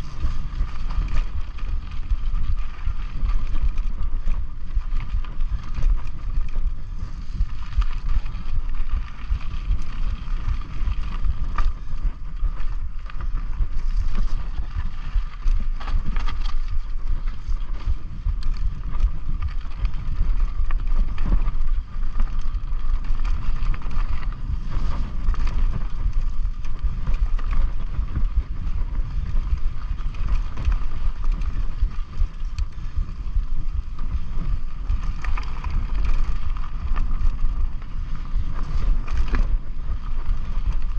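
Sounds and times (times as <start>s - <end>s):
bike tyre noise: 0.0s - 40.9s
wind rumbling on microphone: 0.0s - 40.9s.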